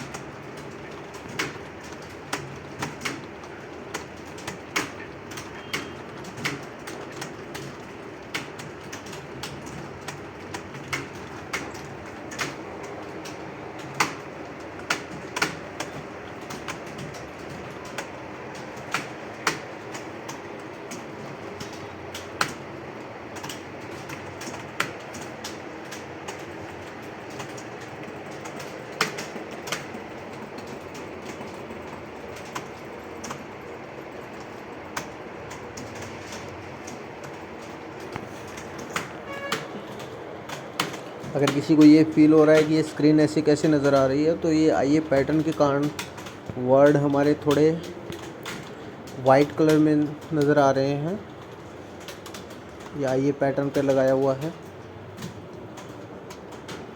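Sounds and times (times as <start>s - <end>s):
computer keyboards clacking: 0.0s - 56.9s.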